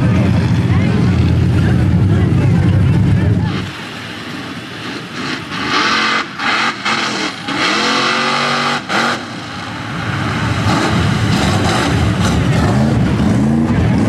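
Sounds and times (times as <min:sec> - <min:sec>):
loud rushing noise: 0:00.0 - 0:14.0
truck engine revving: 0:00.0 - 0:14.0.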